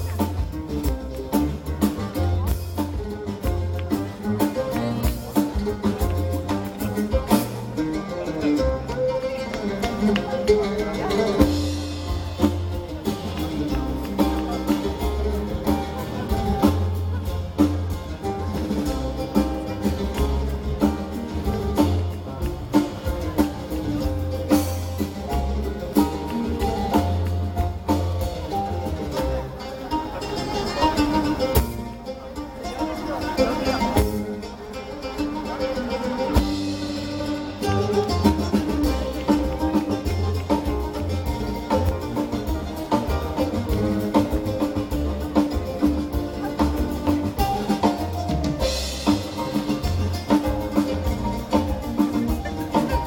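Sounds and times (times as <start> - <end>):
drum kit beating: 0.0 - 53.0
live band playing amplified music: 0.0 - 53.0
low bass notes: 0.0 - 53.0.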